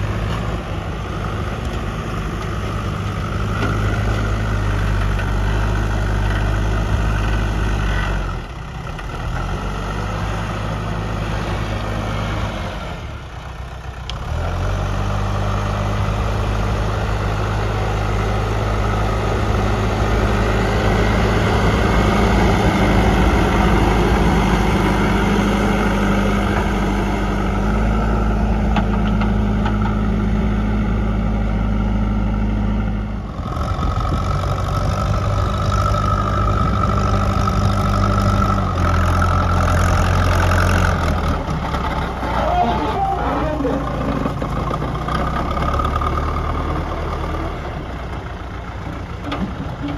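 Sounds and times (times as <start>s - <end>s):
backhoe loader diesel engine running: 0.0s - 49.9s.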